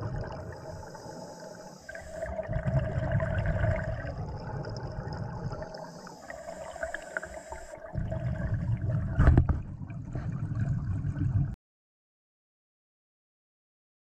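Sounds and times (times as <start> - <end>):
underwater regulator bubbles gurgling: 0.0 - 11.6.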